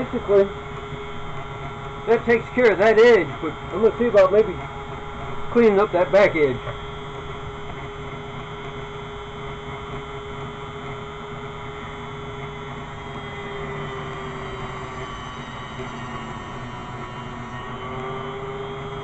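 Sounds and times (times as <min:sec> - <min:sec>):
electric grinder motor humming: 0:00.0 - 0:19.0.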